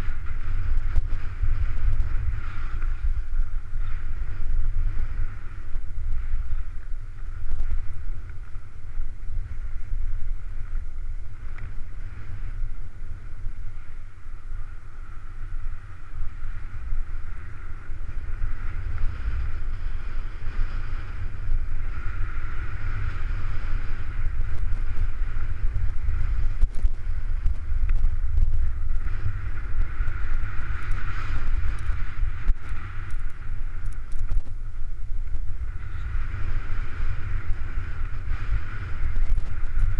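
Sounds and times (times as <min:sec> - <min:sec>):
skis carving on snow: 0:00.0 - 0:39.9
wind buffeting microphone: 0:00.0 - 0:39.9.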